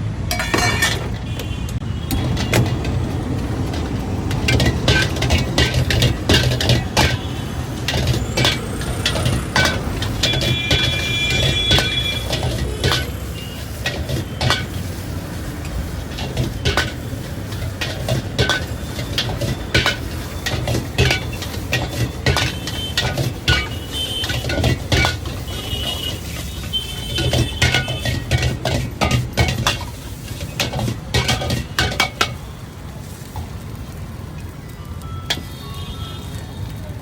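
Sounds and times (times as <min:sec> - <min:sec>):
metal spatula scraping a wok: 0:00.3 - 0:01.6, 0:03.6 - 0:32.4.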